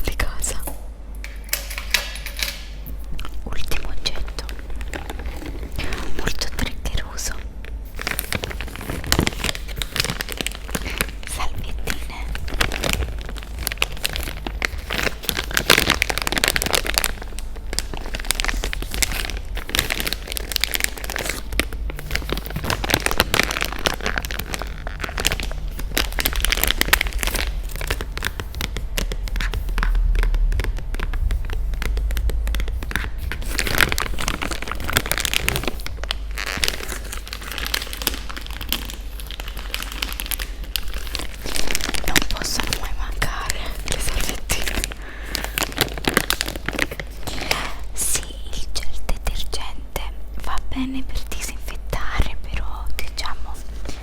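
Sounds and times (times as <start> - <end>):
low steady hum: 0.0 - 54.0
plastic wrapper crinkling: 1.2 - 49.7.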